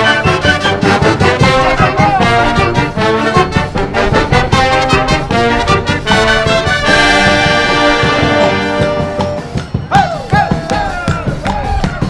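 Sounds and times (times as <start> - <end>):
wind band playing: 0.0 - 12.0.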